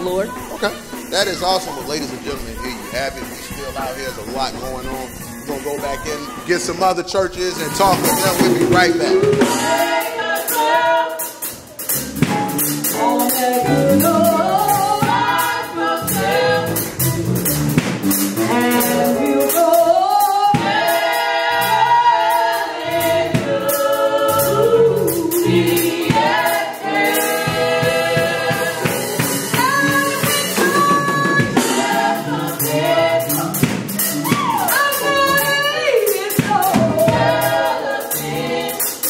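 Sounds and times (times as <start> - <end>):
vocal quartet singing in harmony: 0.0 - 39.0.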